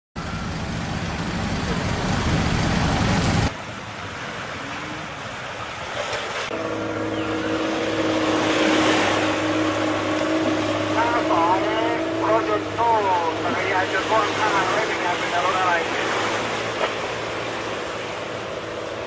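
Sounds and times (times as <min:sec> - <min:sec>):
road traffic: 0:00.2 - 0:19.0
steady engine hum: 0:00.2 - 0:19.0
small waves on sandy beach: 0:00.3 - 0:19.0.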